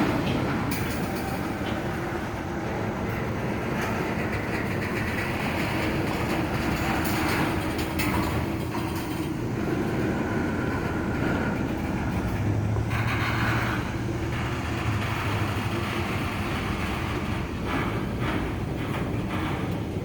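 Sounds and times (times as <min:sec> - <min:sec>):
steel train wheels rumbling on rails: 0:00.0 - 0:20.0.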